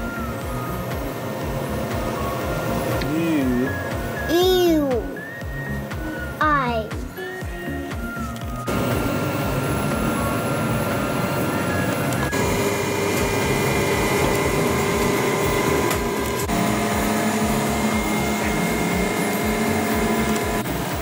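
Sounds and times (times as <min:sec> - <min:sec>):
motor and fan hum: 0:00.0 - 0:21.0
whining tones: 0:00.0 - 0:21.0.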